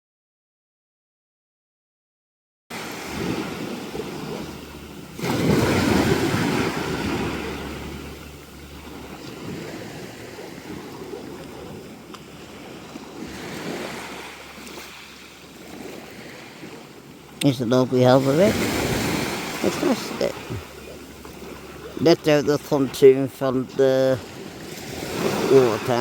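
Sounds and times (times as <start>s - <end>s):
sea waves washing onto beach: 2.7s - 26.0s
wind buffeting microphone: 3.0s - 26.0s.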